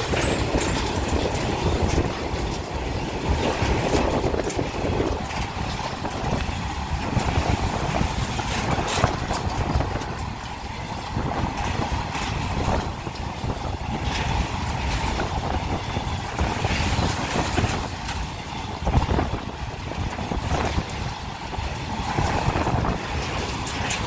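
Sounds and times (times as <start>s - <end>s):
train wheels rumbling on rails: 0.0s - 24.0s
wagons clanking and knocking: 0.0s - 24.0s.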